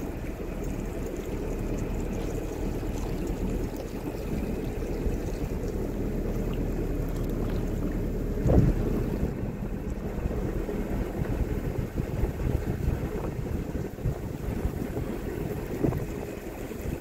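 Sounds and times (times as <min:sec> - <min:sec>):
boat engine running: 0:00.0 - 0:17.0
water washing along hull: 0:00.0 - 0:17.0
wind: 0:00.0 - 0:17.0.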